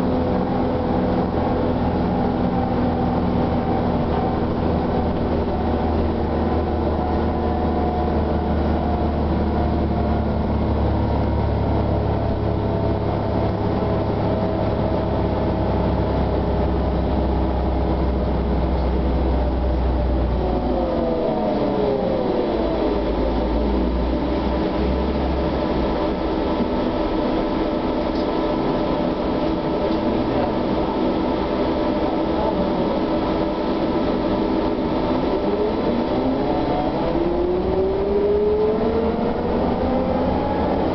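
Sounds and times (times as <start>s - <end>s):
electric traction drive whining: 0.0s - 40.9s
road rumble: 0.0s - 40.9s.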